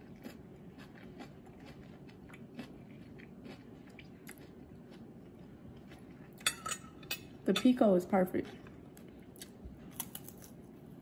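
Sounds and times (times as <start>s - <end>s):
person chewing food: 0.0s - 7.4s, 8.5s - 10.9s.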